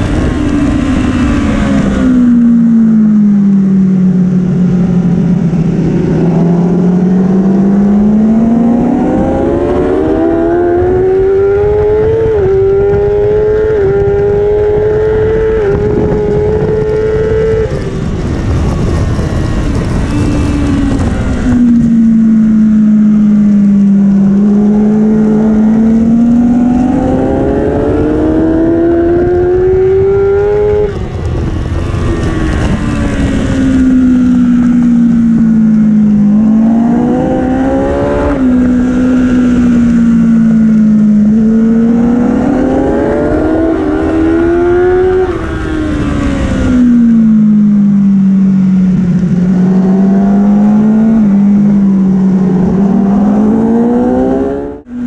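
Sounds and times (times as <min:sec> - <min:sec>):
motorcycle engine accelerating: 0:00.0 - 0:55.0
wind rushing: 0:04.3 - 0:47.4, 0:48.7 - 0:54.9.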